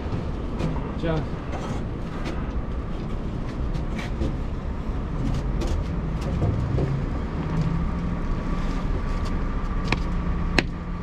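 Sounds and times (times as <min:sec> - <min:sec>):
heavy vehicles rumbling: 0:00.0 - 0:11.0.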